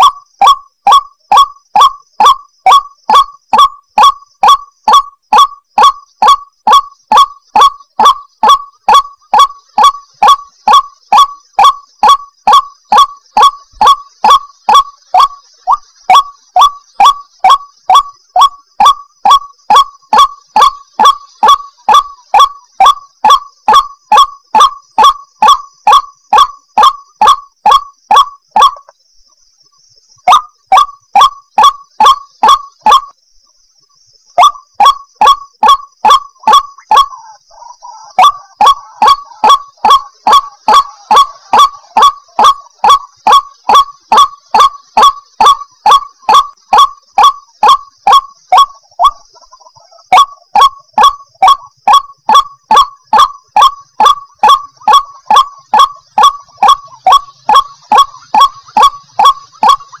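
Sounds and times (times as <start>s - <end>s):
bird harsh rhythmic calls: 0.0s - 60.0s.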